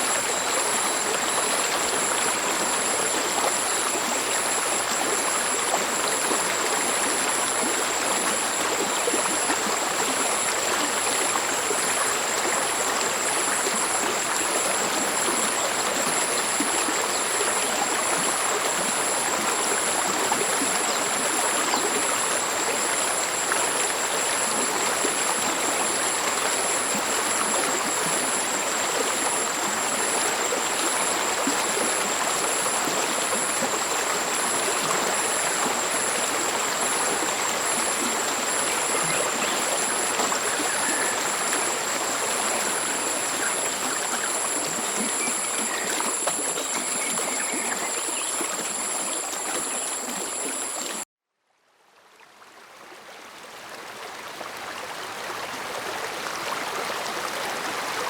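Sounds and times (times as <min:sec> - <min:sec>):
stream flowing over rocks: 0:00.0 - 0:51.0.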